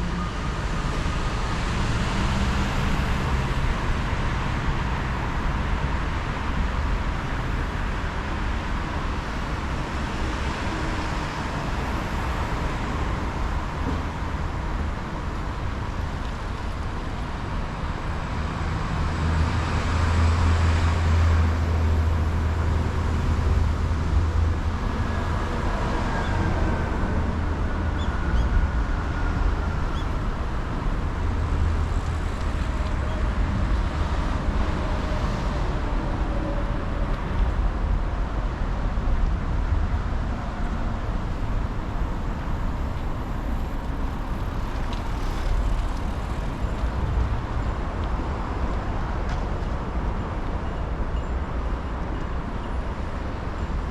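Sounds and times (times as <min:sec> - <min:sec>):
road traffic noise: 0:00.0 - 0:53.9.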